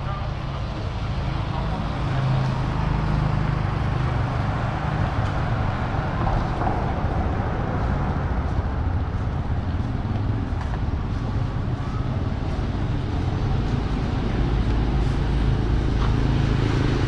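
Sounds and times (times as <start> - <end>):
motorbike and car engines rumbling: 0.0 - 17.0.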